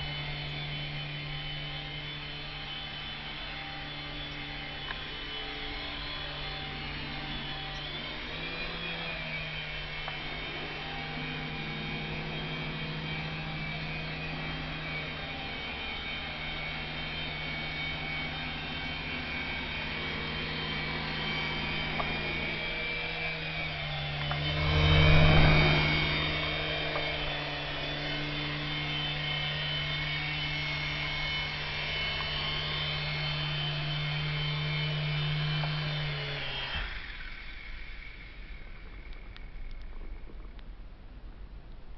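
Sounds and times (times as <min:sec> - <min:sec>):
toy helicopter rotors whirring: 0:00.0 - 0:40.6.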